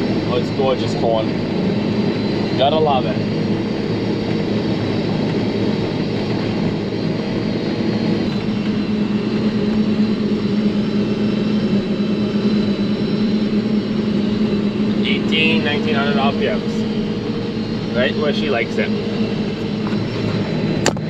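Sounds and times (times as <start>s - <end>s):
harvester engine drone: 0.0s - 21.0s.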